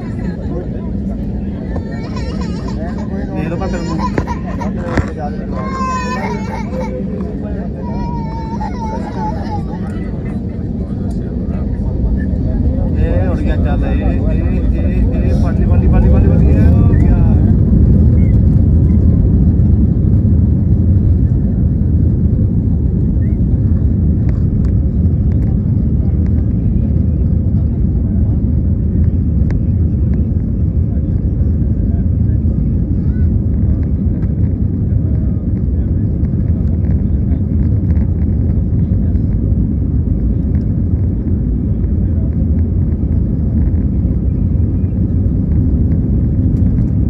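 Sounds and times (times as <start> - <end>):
airliner engine rumble: 0.0 - 47.0.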